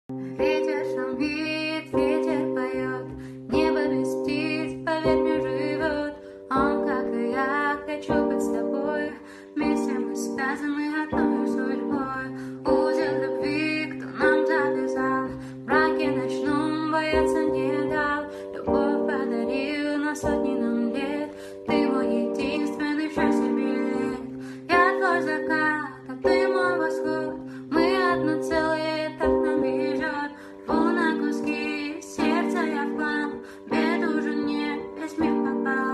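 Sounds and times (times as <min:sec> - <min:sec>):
person singing: 0:00.1 - 0:35.9.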